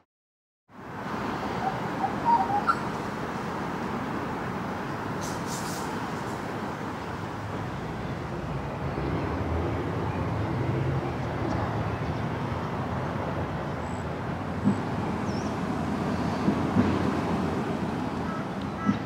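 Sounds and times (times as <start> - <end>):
distant road traffic rumble: 0.7 - 19.0.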